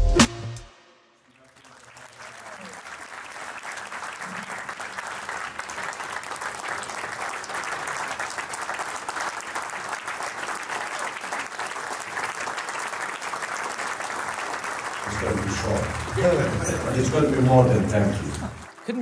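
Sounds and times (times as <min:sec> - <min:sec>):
audience applauding: 0:01.3 - 0:19.0.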